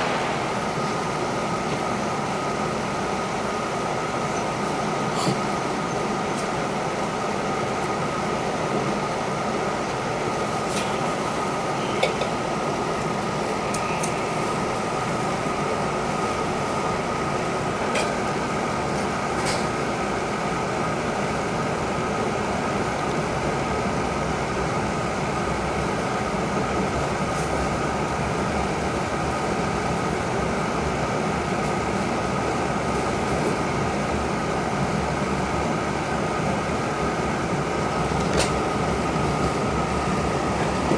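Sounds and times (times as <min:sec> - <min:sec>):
train hum with high tone: 0:00.0 - 0:40.9.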